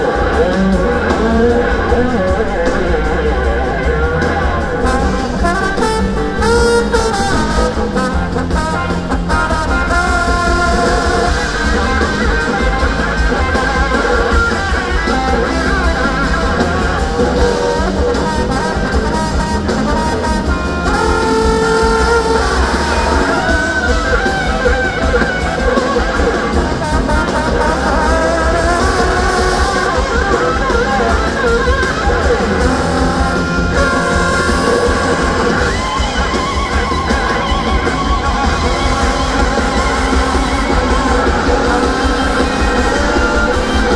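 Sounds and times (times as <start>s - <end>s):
live rock band with horns: 0.0s - 43.9s.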